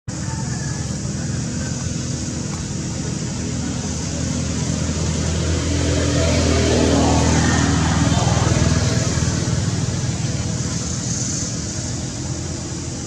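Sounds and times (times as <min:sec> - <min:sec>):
low motor hum: 0:00.1 - 0:13.0.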